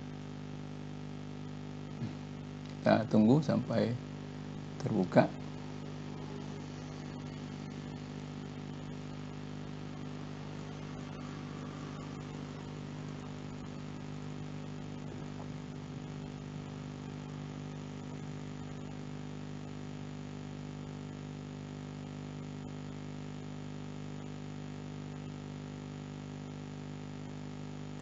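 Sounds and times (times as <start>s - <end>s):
low background hum: 0.0s - 26.1s.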